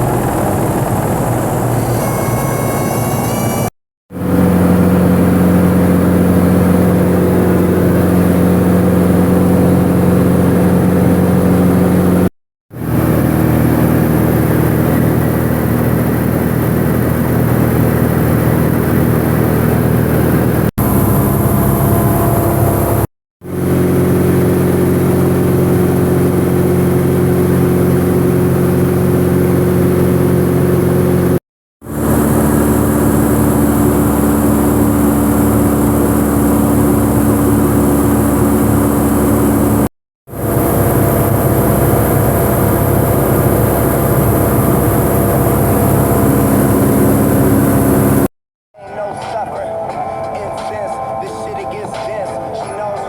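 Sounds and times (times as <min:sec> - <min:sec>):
light aircraft engine and propeller: 0:00.0 - 0:48.3.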